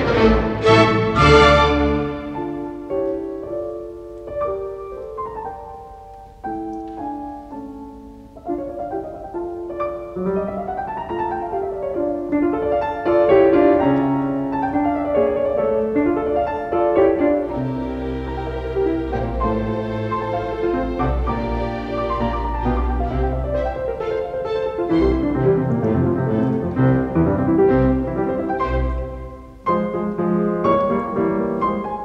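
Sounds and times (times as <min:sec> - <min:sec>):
slow piano melody: 0:00.0 - 0:32.0.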